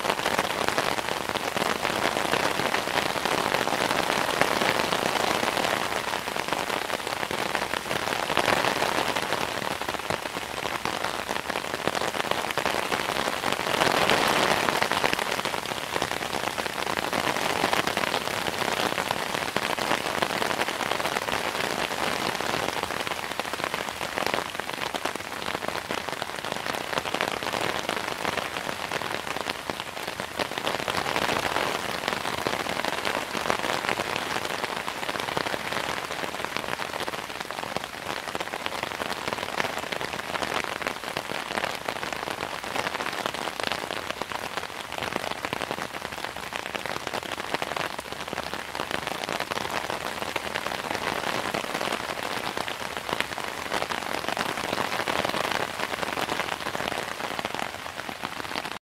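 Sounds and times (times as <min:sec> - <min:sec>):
rain falling on an umbrella: 0:00.0 - 0:58.8.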